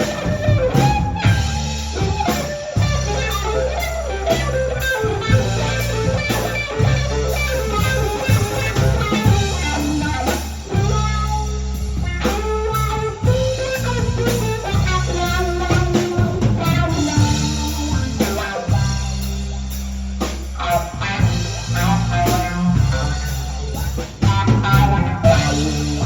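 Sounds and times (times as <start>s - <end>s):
blues band playing: 0.0s - 26.0s
electric guitar lead: 0.0s - 26.0s.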